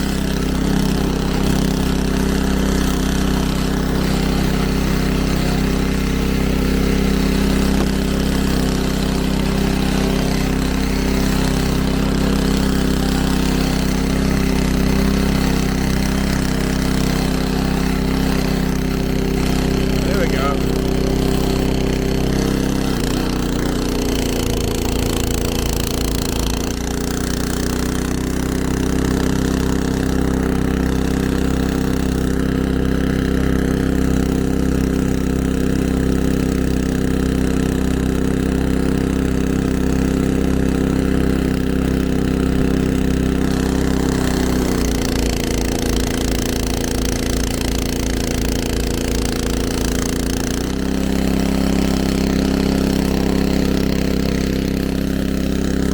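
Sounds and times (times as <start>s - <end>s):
snowblower engine running: 0.0s - 55.9s.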